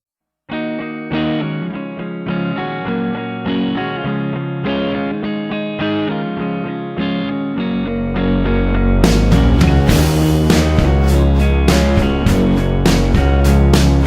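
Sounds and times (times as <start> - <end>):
distorted electric guitar chords: 0.5 - 14.0.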